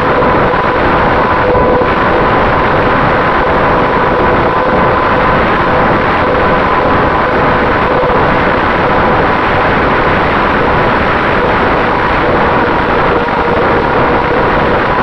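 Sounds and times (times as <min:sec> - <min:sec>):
electric motor and propeller whine: 0:00.0 - 0:15.0
wind noise on microphone: 0:00.0 - 0:15.0.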